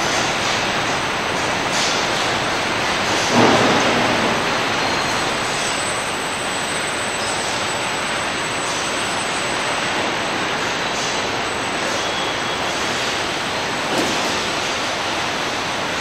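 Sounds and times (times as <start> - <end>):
conveyor machinery: 0.0 - 16.0.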